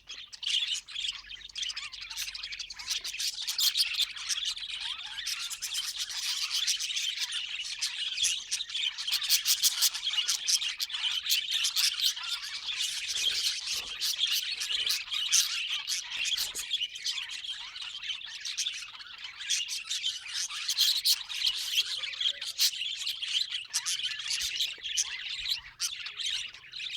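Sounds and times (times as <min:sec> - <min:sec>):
budgerigars chattering: 0:00.0 - 0:26.9.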